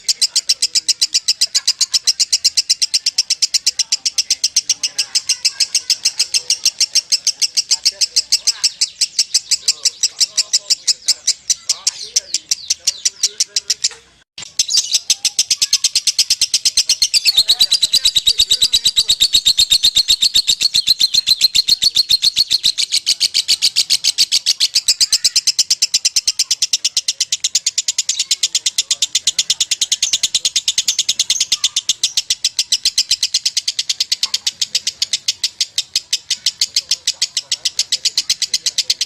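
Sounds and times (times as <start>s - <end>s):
lovebird shrill chirping: 0.0s - 39.0s.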